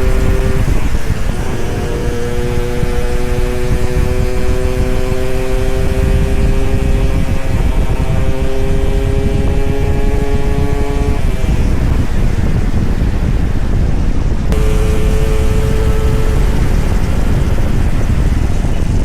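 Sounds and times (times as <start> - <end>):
two-stroke motorcycle accelerating: 0.0 - 19.0
wind rumble on microphone: 0.0 - 19.0.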